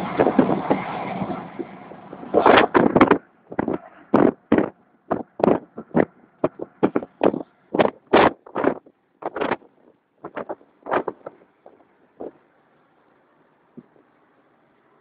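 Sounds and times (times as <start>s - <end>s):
vehicle engine noise: 0.0s - 15.0s.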